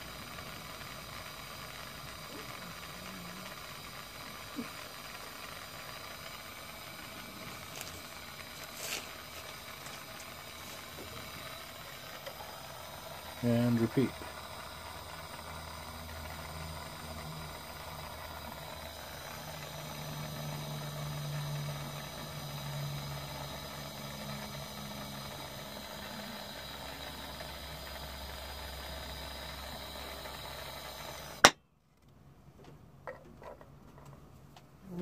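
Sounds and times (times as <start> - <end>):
gas torch hissing: 0.0 - 31.6
torch shutoff click: 0.0 - 31.6.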